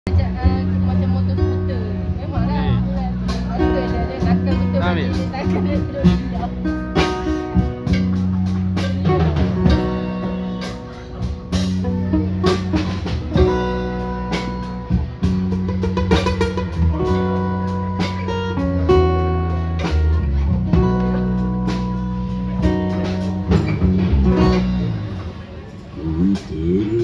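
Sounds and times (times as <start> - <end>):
sustained low bass line: 0.0 - 27.0
plucked electric guitars: 0.1 - 27.0.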